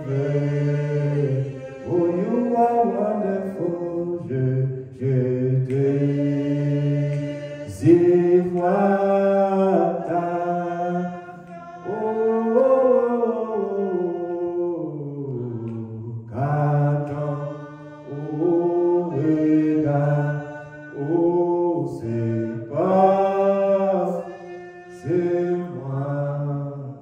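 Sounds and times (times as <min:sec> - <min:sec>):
people singing a hymn: 0:00.0 - 0:27.0.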